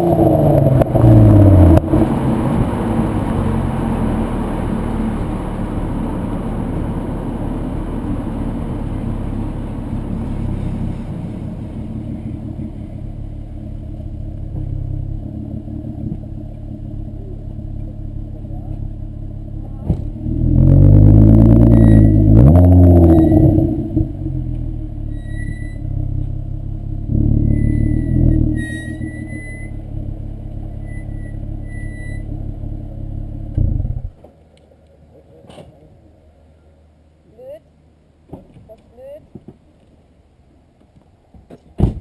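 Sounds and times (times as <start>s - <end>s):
car engine revving: 0.0s - 34.2s.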